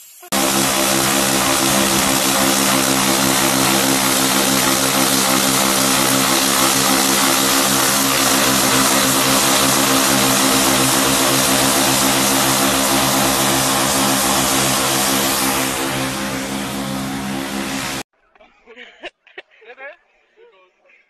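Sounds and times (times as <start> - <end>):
pressure washer drone: 0.2 - 18.1
water spraying onto roof tiles: 0.3 - 18.0.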